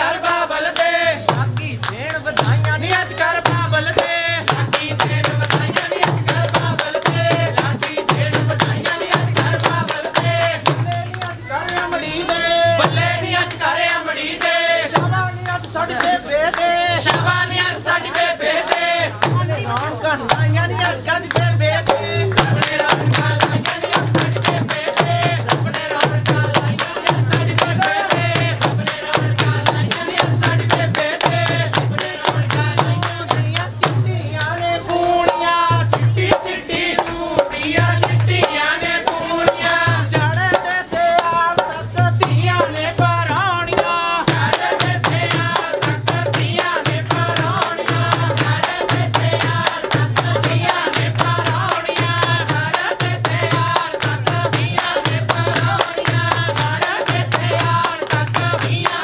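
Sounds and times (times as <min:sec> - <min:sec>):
folk singing: 0:00.0 - 0:59.0
rhythmic hand clapping: 0:00.0 - 0:59.0
hand drum beat: 0:01.3 - 0:13.5, 0:18.7 - 0:34.2, 0:35.2 - 0:59.0.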